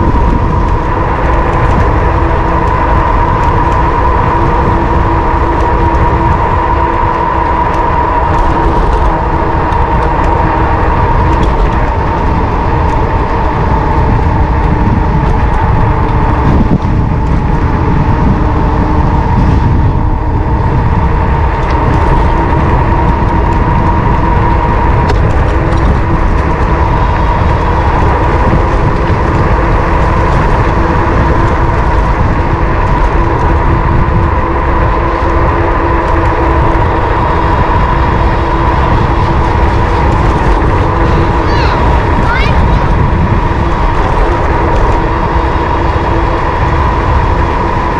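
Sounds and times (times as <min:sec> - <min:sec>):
steady whine: 0:00.0 - 0:47.9
wind rushing over microphone: 0:00.0 - 0:47.9.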